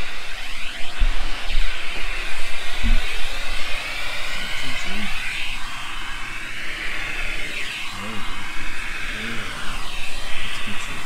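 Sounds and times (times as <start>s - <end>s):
vacuum cleaner hissing: 0.0s - 11.0s.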